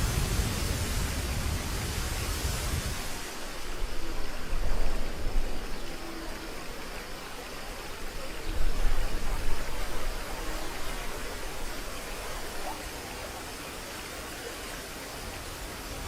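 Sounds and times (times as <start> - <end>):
rushing splashing water: 0.0 - 16.0.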